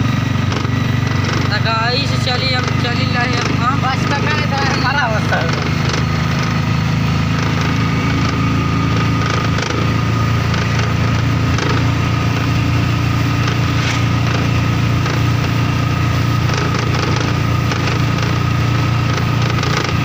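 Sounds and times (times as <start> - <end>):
auto-rickshaw engine running: 0.0 - 20.0.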